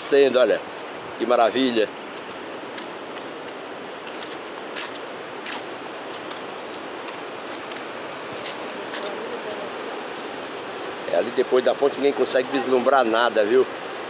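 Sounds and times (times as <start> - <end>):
fast river rushing: 0.0 - 14.0.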